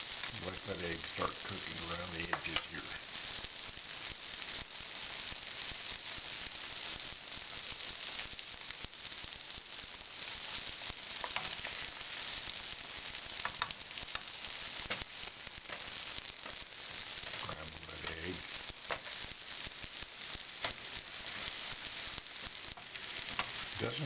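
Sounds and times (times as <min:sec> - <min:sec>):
egg sizzling in a hot pan: 0:00.0 - 0:24.0
sharp crackles of frying: 0:00.0 - 0:24.0.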